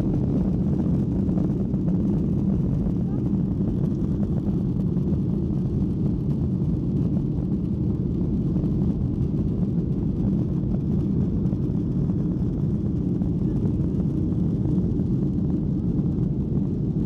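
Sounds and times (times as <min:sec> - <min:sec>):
jet cabin noise: 0:00.0 - 0:17.0.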